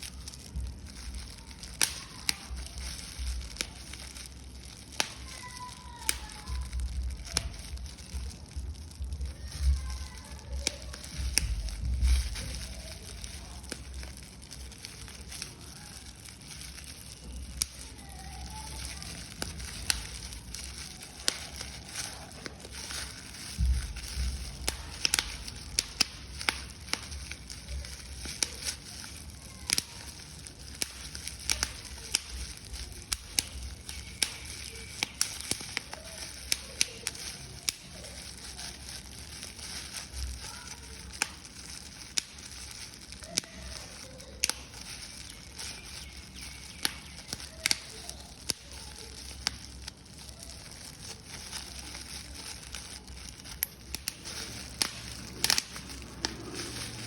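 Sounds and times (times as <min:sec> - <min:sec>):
paper crumpling: 0:00.0 - 0:57.0.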